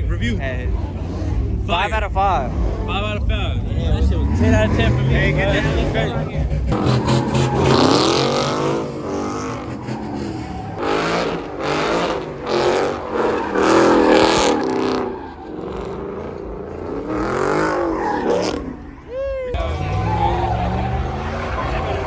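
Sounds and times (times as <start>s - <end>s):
vehicle engine revving hard: 0.0s - 18.9s, 19.6s - 22.0s.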